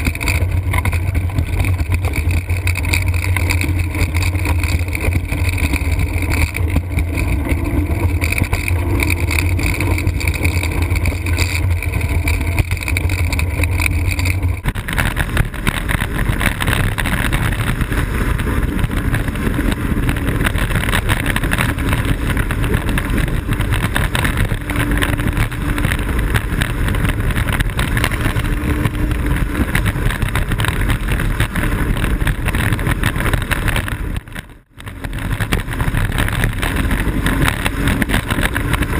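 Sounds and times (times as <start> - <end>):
wheels rumbling over pavement: 0.0 - 38.9
wind rushing on microphone: 0.0 - 38.9.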